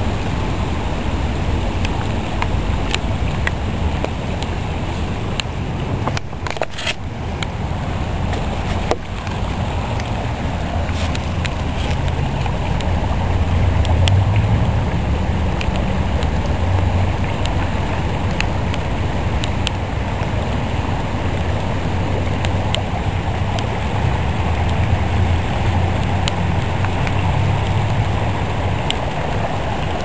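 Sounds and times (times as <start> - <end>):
raindrops ticking: 0.0 - 30.0
river water rushing: 0.0 - 30.0.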